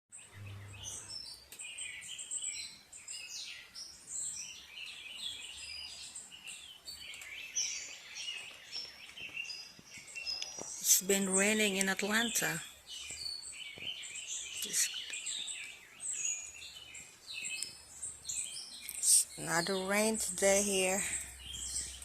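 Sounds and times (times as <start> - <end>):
birds chirping and singing: 0.1 - 22.0.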